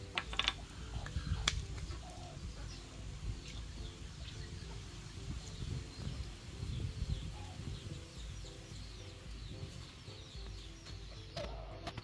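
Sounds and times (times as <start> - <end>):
birds calling softly: 0.0 - 12.0.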